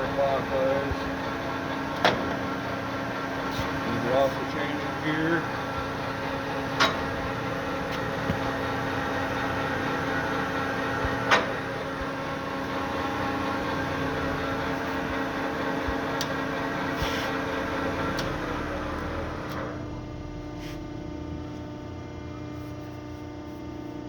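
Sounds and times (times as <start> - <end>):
lathe spindle whine: 0.0 - 20.2.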